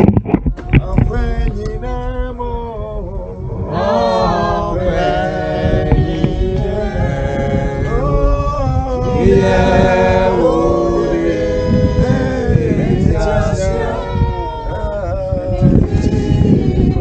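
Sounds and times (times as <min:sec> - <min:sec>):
group singing a slow hymn: 0:00.6 - 0:17.0.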